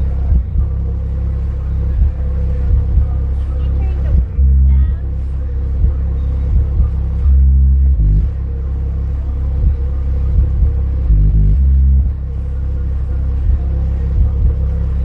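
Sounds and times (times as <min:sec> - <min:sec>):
subwoofer playing deep bass: 0:00.0 - 0:15.0.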